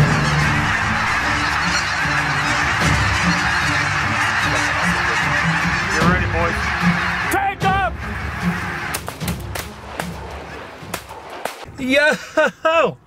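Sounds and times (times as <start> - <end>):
flock of geese calling: 0.0 - 10.8.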